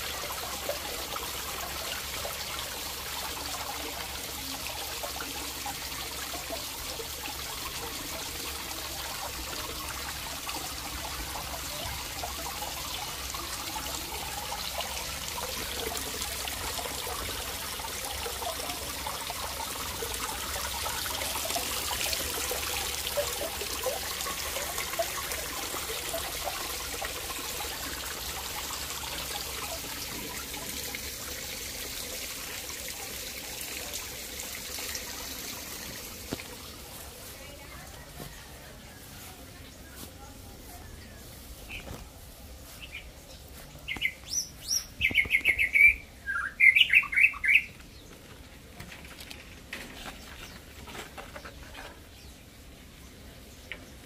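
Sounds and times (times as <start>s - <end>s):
small waterfall splashing on stones: 0.0s - 39.0s, 41.0s - 45.9s, 46.6s - 54.0s.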